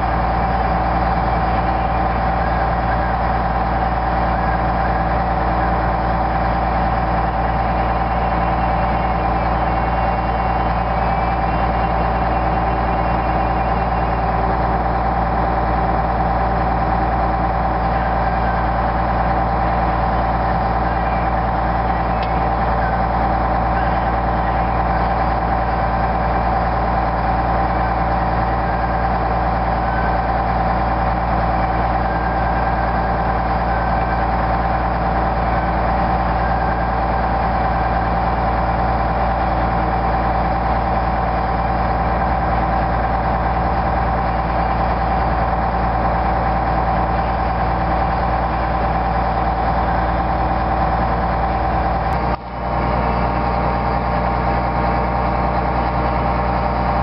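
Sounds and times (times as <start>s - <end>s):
constant mechanical whine: 0.0s - 57.0s
diesel engine droning under work: 0.0s - 57.0s.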